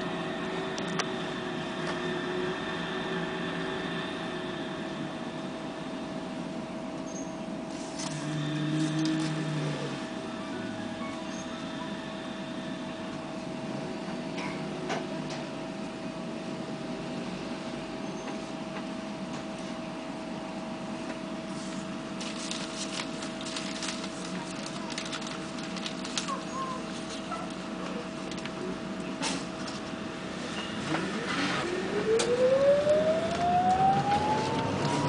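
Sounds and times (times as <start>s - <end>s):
trolleybus electrical hum: 0.0s - 35.0s.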